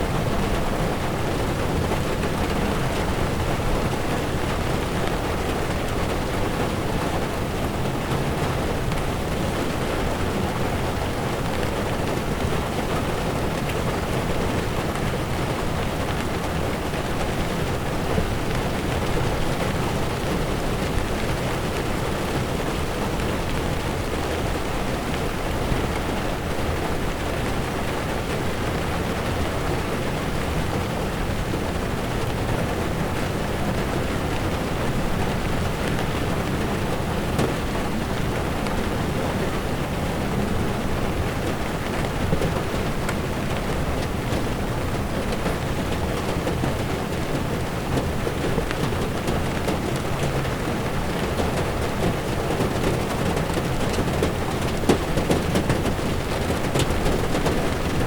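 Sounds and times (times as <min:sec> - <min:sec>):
heavy rain on windshield: 0:00.0 - 0:58.0
tyres rumbling on wet road: 0:00.0 - 0:58.0.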